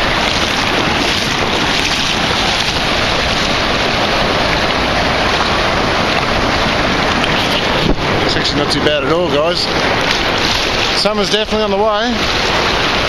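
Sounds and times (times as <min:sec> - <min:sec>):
surf washing through shallow water: 0:00.0 - 0:13.0
wind buffeting microphone: 0:00.0 - 0:13.0.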